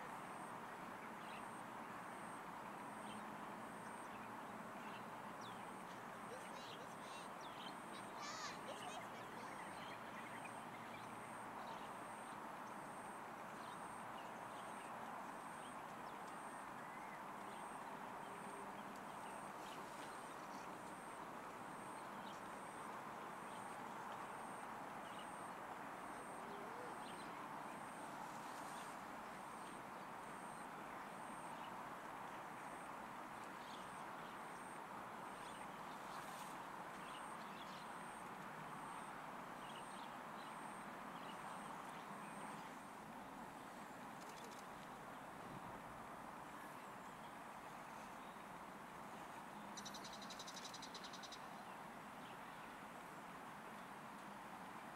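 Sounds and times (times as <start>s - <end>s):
outdoor background hiss: 0.0s - 54.9s.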